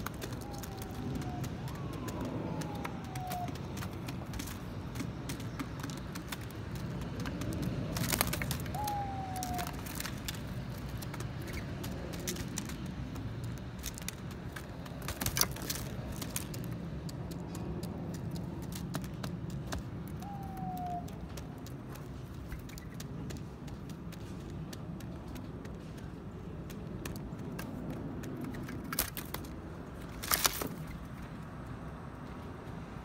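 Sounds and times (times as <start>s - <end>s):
birds tapping on foil: 0.0s - 31.0s
city traffic rumble: 0.0s - 33.0s.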